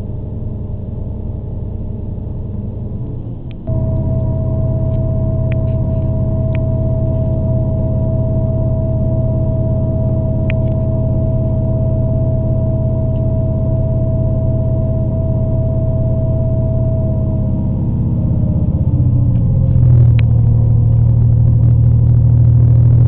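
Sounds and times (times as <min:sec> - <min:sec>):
steady high whine: 0:00.0 - 0:23.0
train interior low drone: 0:00.0 - 0:23.0.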